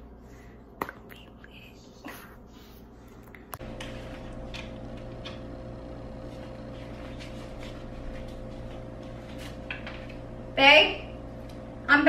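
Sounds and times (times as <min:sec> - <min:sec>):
electrical hum with thin tone: 0:00.0 - 0:12.0.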